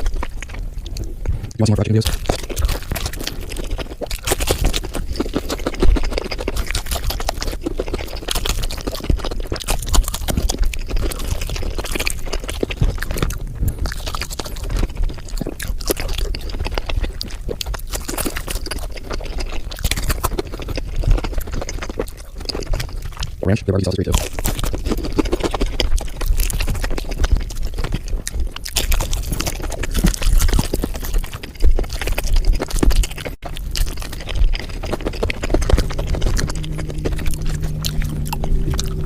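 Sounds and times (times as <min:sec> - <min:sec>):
crunching and chewing fried chicken: 0:00.0 - 0:39.0.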